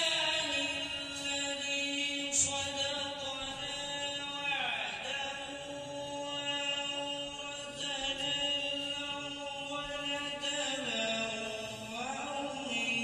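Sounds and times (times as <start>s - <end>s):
person chanting melodic recitation: 0.0s - 13.0s.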